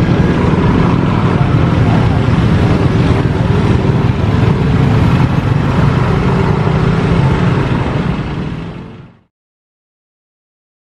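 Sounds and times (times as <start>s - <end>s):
rumble of passing vehicles: 0.0s - 9.3s.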